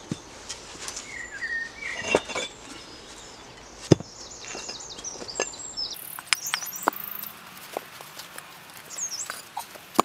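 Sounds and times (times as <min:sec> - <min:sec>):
birds chirping: 0:00.9 - 0:10.0.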